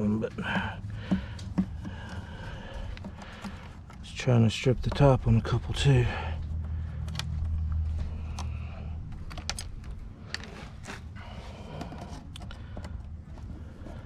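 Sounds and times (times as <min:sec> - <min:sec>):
hand tools clicking and tapping: 0:00.2 - 0:05.5, 0:06.4 - 0:13.5.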